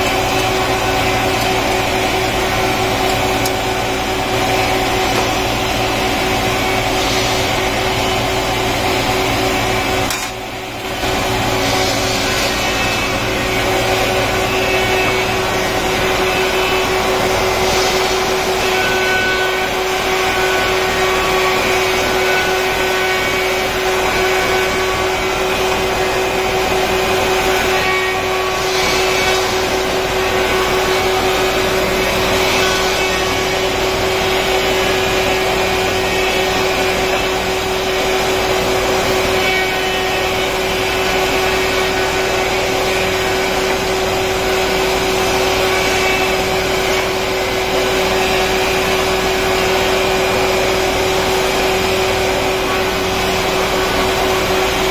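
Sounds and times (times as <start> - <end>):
planer machine humming: 0.0 - 54.9.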